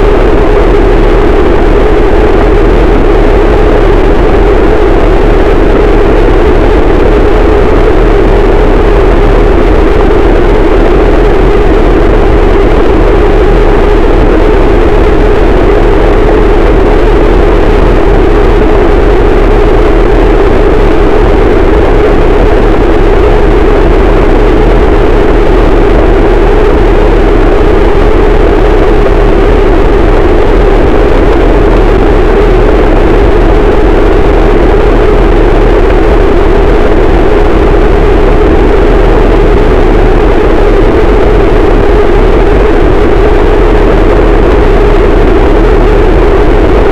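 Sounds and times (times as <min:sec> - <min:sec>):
loud distorted noise wall: 0:00.0 - 0:46.9.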